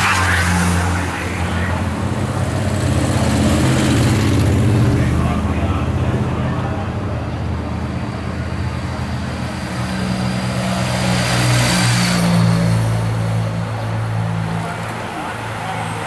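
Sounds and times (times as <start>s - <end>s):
racing bicycles passing: 0.0s - 16.0s.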